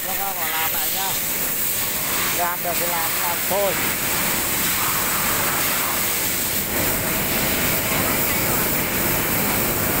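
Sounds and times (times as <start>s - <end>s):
factory machinery hiss and rumble: 0.0s - 10.0s.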